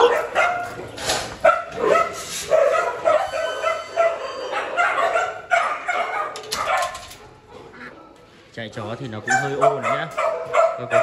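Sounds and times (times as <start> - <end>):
dogs barking and yipping: 0.0 - 8.5, 9.1 - 11.0.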